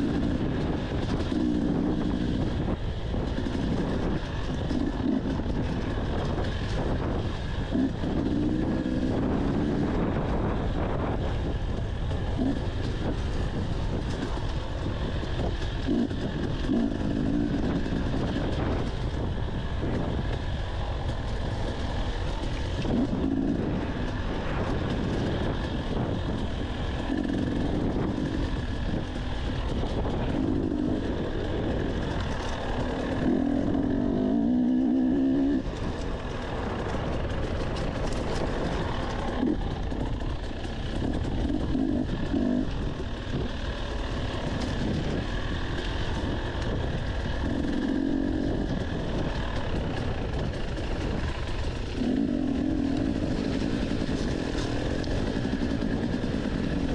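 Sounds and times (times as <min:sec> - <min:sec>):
dirt bike engine revving: 0:00.0 - 0:56.9
steady low rumble: 0:00.0 - 0:56.9.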